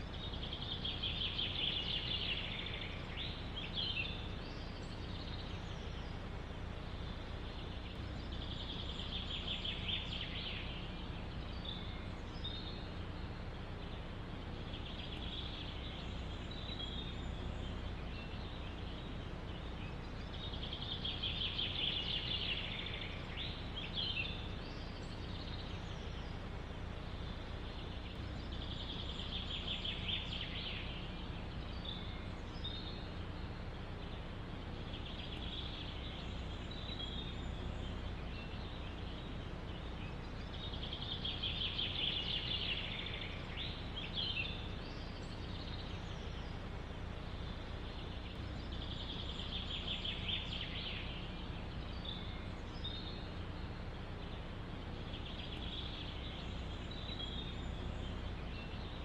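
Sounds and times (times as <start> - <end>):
wind in forest: 0.0 - 59.0.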